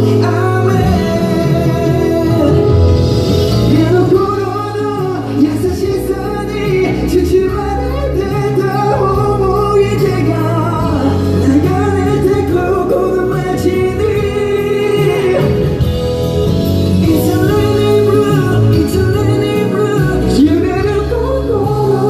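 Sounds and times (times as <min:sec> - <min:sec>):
instrumental accompaniment: 0:00.0 - 0:22.0
man singing into microphone: 0:00.0 - 0:22.0.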